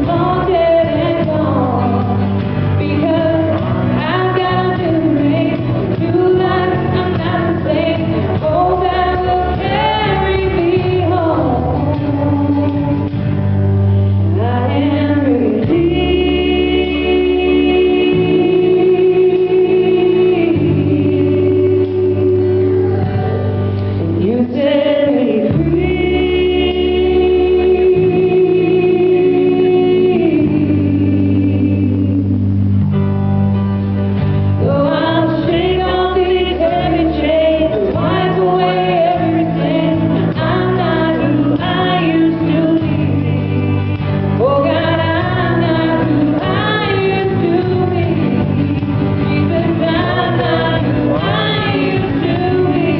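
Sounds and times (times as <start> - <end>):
gospel singing: 0.0 - 32.7, 34.6 - 52.9.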